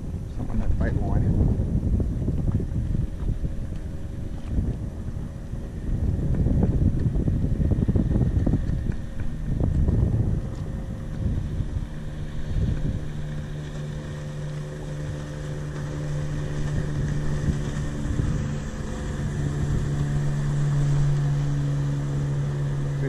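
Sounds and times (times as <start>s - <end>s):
motorboat engine running: 0.0s - 23.0s
wind buffeting microphone: 0.0s - 23.0s.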